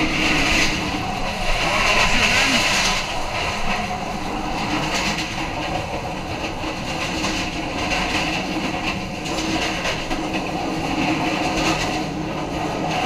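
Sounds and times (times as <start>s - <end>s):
train wheels rumbling on rails: 0.0s - 13.0s
wheels clacking over rail joints: 0.0s - 13.0s.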